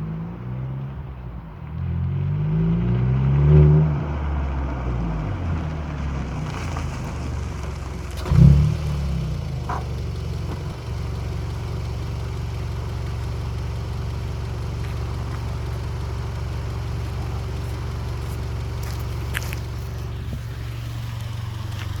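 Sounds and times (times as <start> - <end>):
car engine throttle blip and idle: 0.0 - 22.0.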